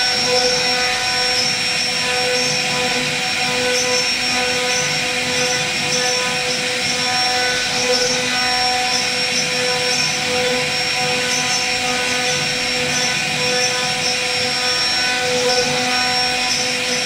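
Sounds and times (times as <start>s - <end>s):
router spindle high whine: 0.0s - 17.0s.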